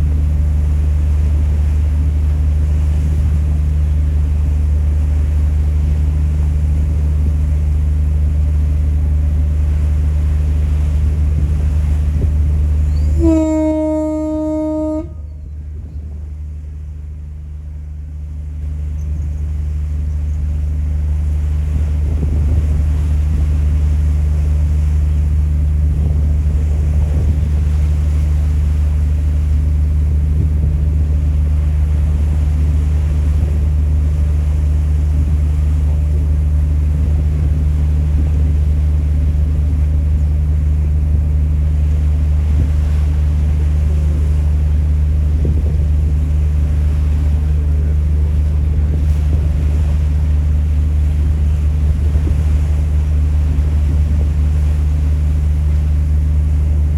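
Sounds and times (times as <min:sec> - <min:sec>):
ferry engines droning: 0:00.0 - 0:56.9
rushing water: 0:00.0 - 0:56.9
wind on microphone: 0:00.0 - 0:56.9.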